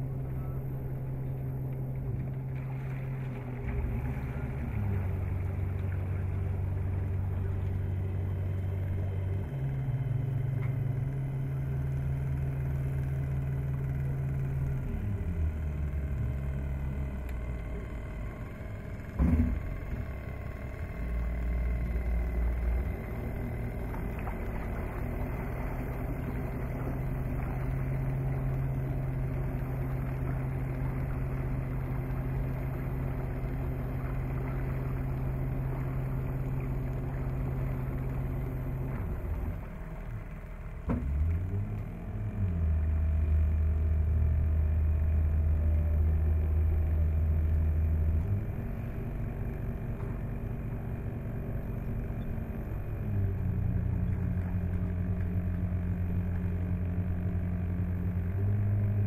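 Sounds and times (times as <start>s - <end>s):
electric boat motor hum: 0.0s - 59.0s
water noise: 0.0s - 59.0s.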